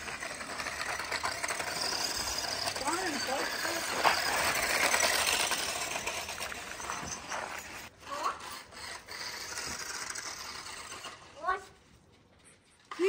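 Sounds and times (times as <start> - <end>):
toy truck tyres spinning in sand: 0.0 - 11.6.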